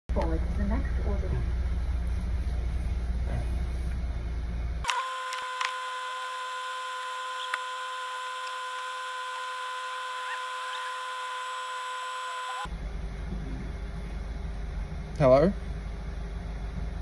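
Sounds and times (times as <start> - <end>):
electronic hum with hiss: 1.5 - 17.0.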